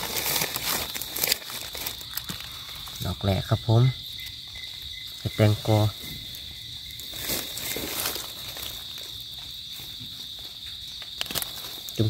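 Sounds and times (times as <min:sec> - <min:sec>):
high-pitched insect chorus: 0:00.0 - 0:12.0
rustling of dry leaves: 0:00.0 - 0:12.0.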